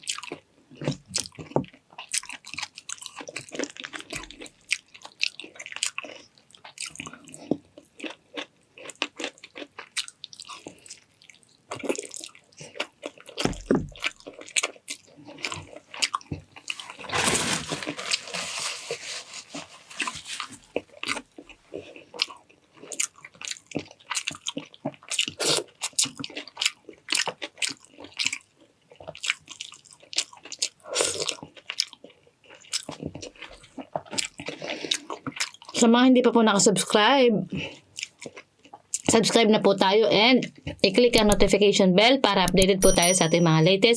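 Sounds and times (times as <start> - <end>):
person chewing and crunching food: 0.0 - 35.8, 37.6 - 39.1.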